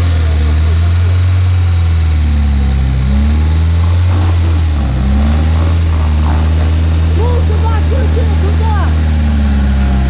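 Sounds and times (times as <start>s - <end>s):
vehicle engine at low revs: 0.0s - 10.0s.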